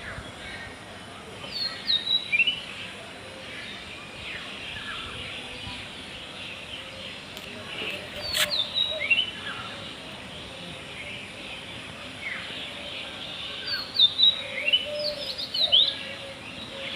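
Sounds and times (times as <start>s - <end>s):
small birds chirping: 0.0s - 16.9s
steady background hiss: 0.0s - 16.9s.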